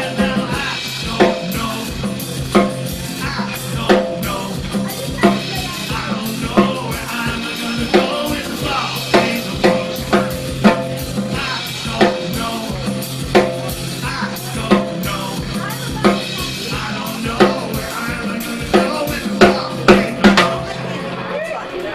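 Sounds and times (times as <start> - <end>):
acoustic guitar strumming: 0.0 - 21.9
drum kit: 0.0 - 21.9.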